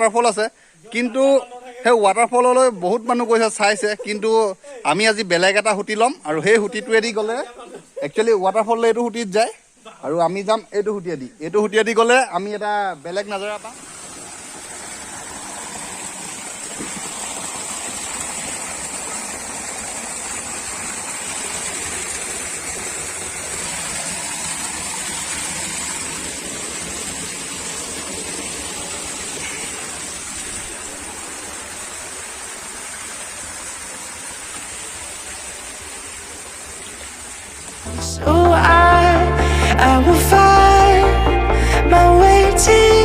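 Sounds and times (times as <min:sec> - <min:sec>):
stream water flowing: 0:00.0 - 0:39.7.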